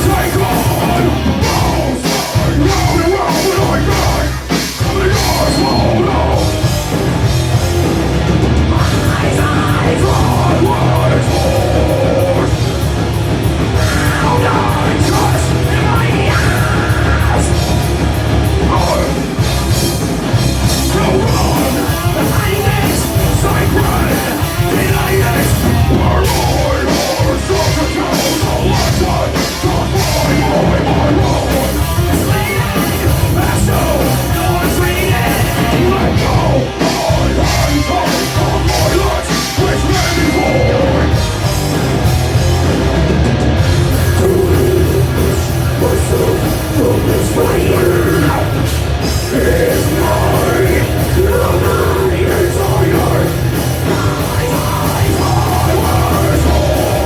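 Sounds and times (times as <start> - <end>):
live rock band playing: 0.0 - 57.0
vocals: 0.0 - 57.0.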